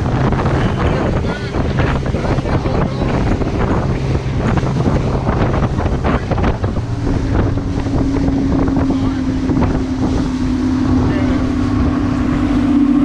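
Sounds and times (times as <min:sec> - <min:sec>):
outboard engine humming: 0:00.0 - 0:13.0
water splashing against hull: 0:00.0 - 0:13.0
wind buffeting microphone: 0:00.0 - 0:13.0.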